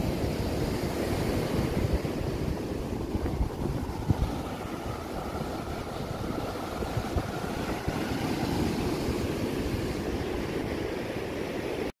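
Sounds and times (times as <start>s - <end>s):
surf breaking on a sandy beach: 0.0s - 11.9s
wind buffeting the microphone: 0.0s - 11.9s.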